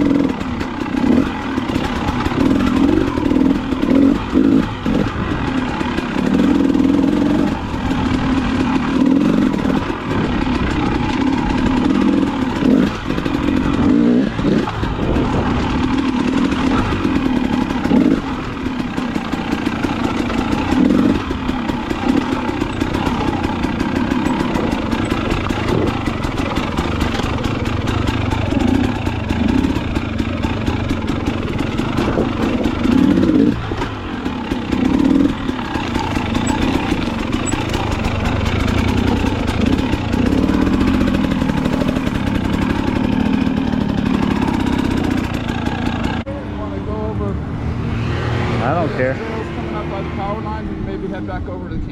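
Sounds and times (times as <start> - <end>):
dirt bike engine revving: 0.0 - 51.7.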